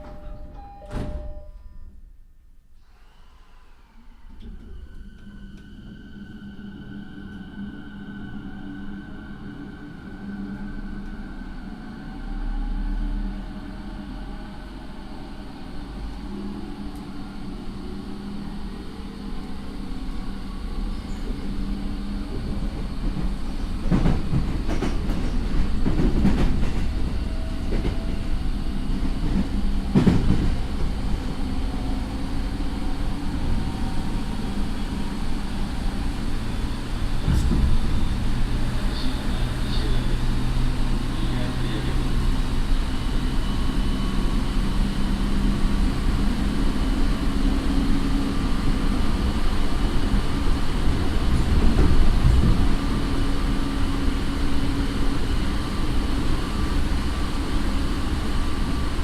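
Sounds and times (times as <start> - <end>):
train low rumble: 0.0 - 2.8, 3.4 - 59.0.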